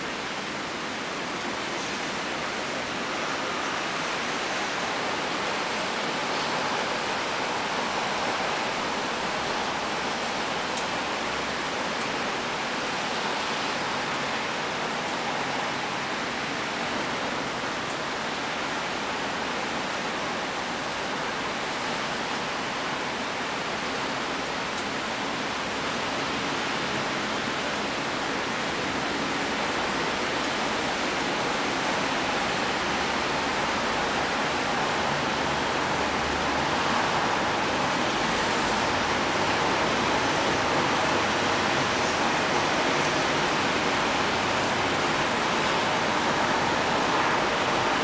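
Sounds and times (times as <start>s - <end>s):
rain falling steadily: 0.0s - 48.0s.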